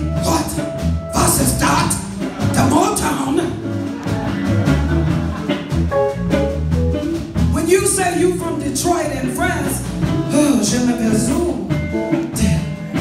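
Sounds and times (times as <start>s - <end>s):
live band music with singer: 0.0s - 13.0s.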